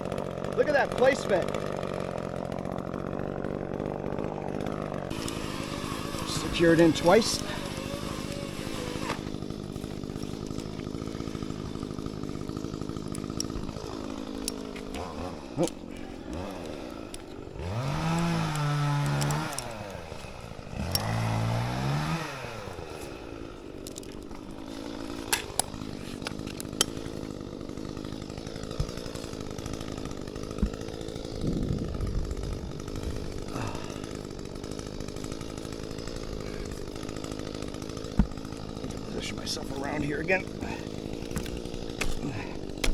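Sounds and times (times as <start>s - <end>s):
chainsaw idling and revving: 0.0s - 42.9s.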